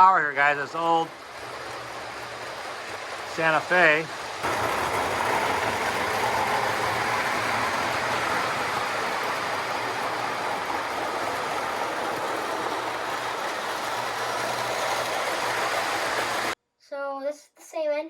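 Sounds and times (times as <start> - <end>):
toy train wheels rolling on rails: 0.0 - 16.6.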